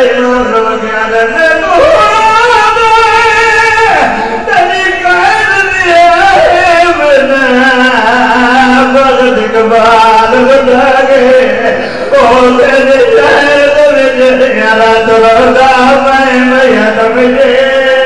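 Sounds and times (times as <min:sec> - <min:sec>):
man singing through a microphone: 0:00.0 - 0:18.0.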